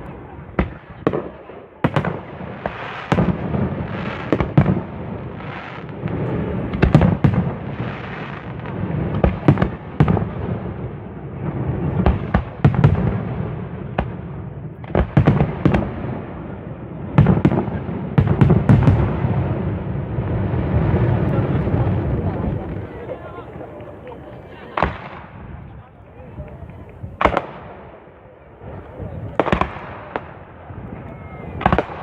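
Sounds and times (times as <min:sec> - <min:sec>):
fireworks bangs: 0:00.0 - 0:32.0
fireworks crackle: 0:00.0 - 0:32.0.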